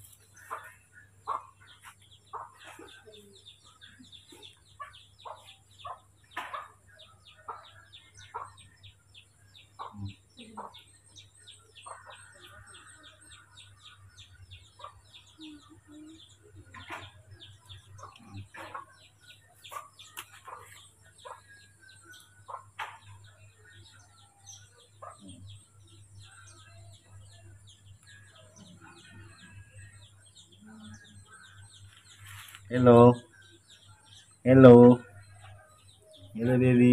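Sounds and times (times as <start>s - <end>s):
faint birds chirping: 0.0s - 36.9s.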